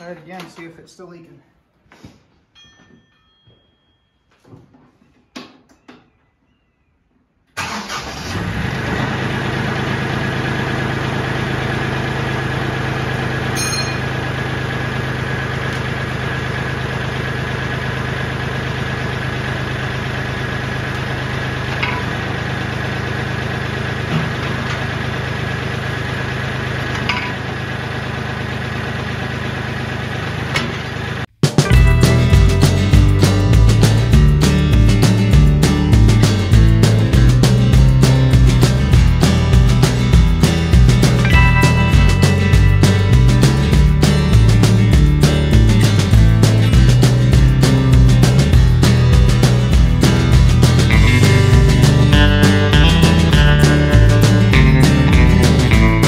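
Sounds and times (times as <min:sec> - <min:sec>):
tractor diesel engine idling: 0:07.6 - 0:56.0.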